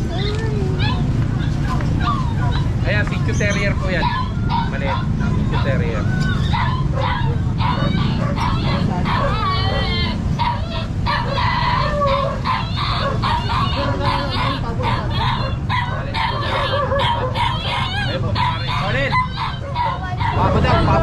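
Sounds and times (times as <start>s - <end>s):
high animal calls: 0.6s - 21.0s.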